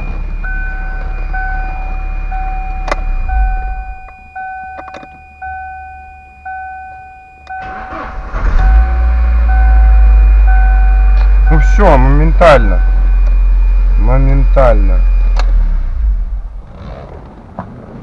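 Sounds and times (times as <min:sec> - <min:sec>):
dashboard warning chime: 0:00.0 - 0:15.5
car engine running: 0:00.0 - 0:18.0.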